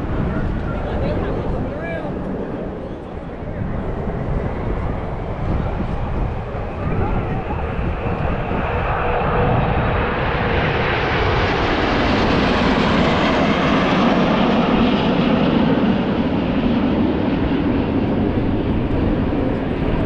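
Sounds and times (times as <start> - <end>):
airplane passing overhead: 0.0 - 20.0.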